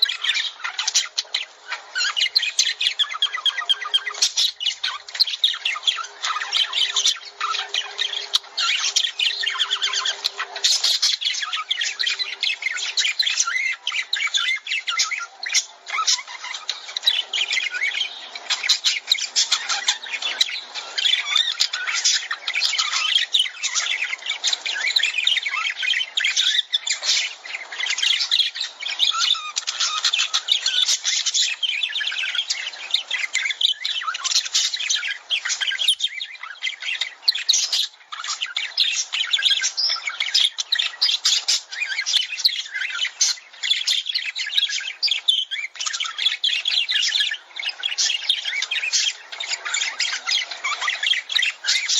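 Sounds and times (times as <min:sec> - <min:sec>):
lovebirds chattering: 0:00.0 - 0:51.9.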